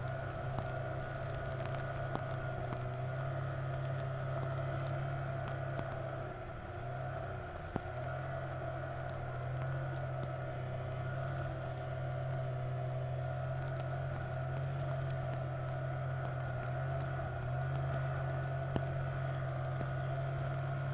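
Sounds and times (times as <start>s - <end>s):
engine humming steadily: 0.0s - 20.9s
faint ticks: 0.0s - 20.9s.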